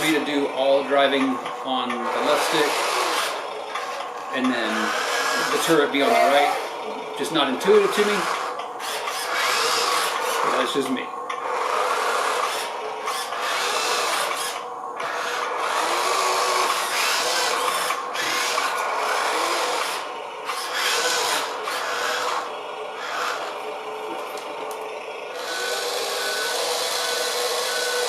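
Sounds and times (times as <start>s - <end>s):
toy motor grinding whir: 0.0s - 23.7s, 25.3s - 28.0s.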